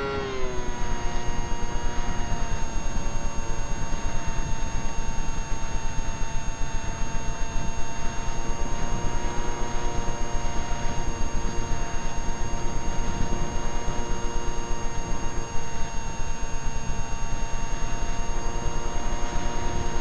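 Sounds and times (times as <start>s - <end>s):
electric motor high whine: 0.0s - 20.0s.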